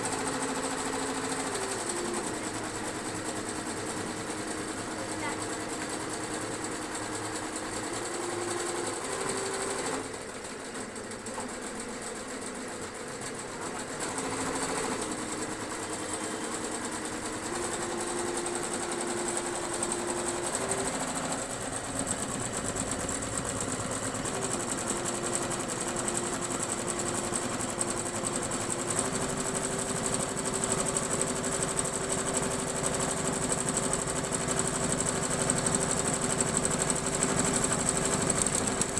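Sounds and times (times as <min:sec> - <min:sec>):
embroidery machine stitching: 0:00.0 - 0:38.9.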